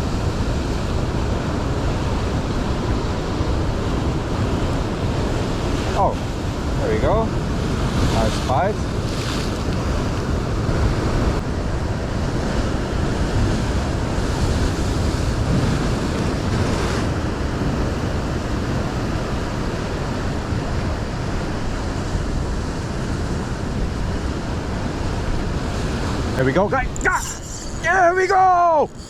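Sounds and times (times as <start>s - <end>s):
waves washing in: 0.0s - 26.3s
strong wind buffeting microphone: 0.0s - 27.2s.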